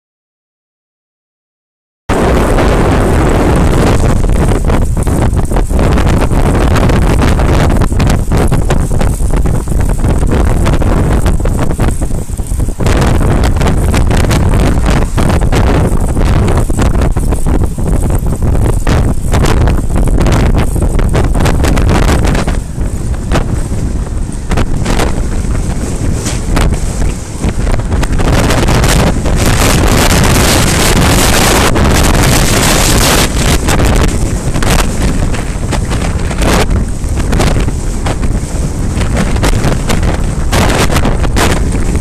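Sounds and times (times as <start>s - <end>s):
wind buffeting microphone: 2.1s - 42.0s
short crackles: 3.2s - 42.0s.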